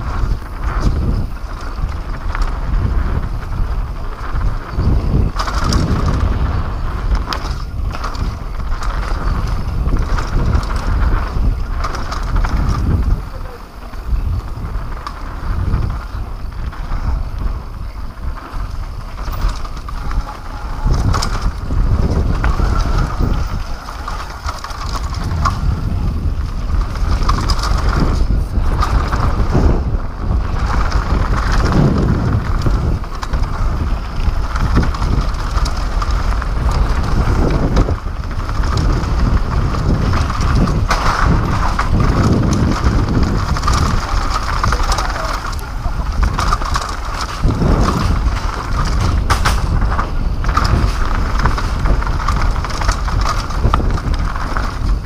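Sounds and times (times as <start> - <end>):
bike rattles and knocks: 0.0 - 55.0
tyres rumbling on dirt: 0.0 - 55.0
wind buffeting microphone: 0.0 - 55.0.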